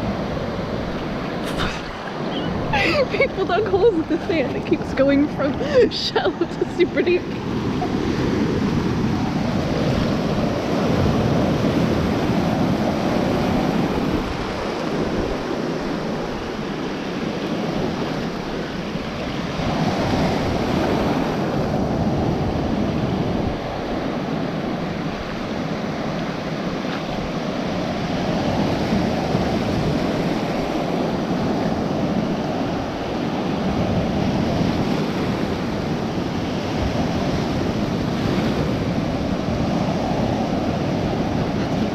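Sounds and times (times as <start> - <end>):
ocean surf in shallows: 0.0 - 41.9
wind on microphone: 0.0 - 41.9.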